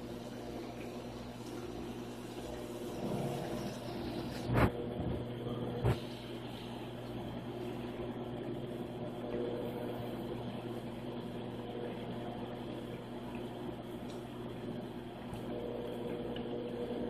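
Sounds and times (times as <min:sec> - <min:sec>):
aquarium pump humming: 0:00.0 - 0:17.0.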